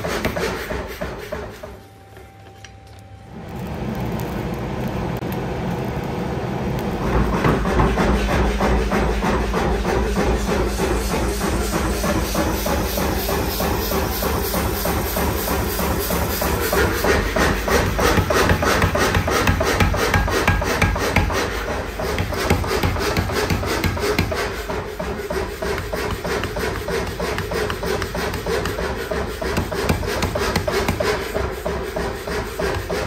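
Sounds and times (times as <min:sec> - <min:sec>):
power hammer pounding steel: 0:00.0 - 0:01.8, 0:07.0 - 0:33.0.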